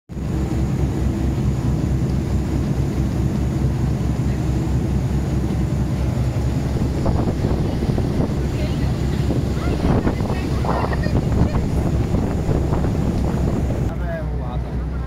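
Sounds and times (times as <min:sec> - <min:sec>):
boat engine throbbing: 0:00.1 - 0:15.0
water rushing in wake: 0:00.1 - 0:15.0.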